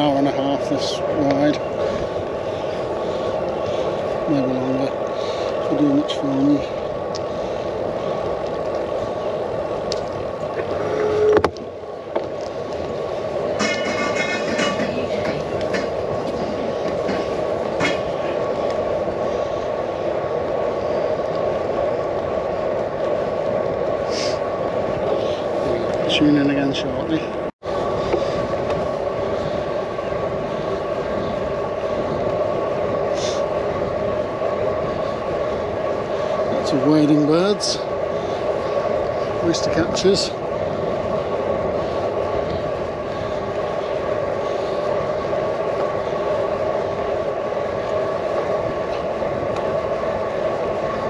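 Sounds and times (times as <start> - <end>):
bicycle rolling noise: 0.0 - 51.0
wind buffeting microphone: 0.0 - 51.0.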